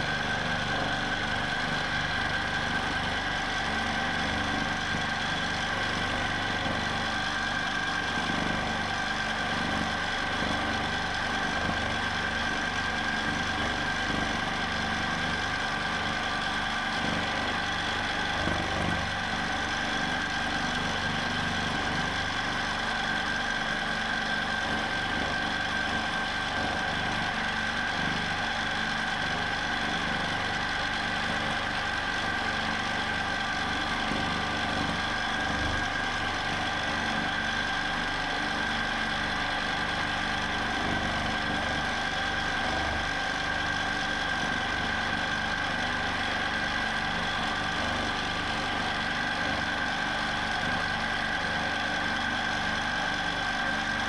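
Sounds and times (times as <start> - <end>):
quilting machine motor humming: 0.0 - 54.0.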